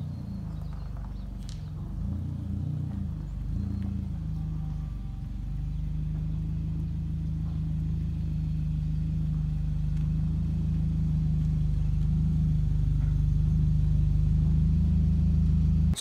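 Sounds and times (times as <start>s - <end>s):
car engine idling while reversing: 0.0s - 16.0s.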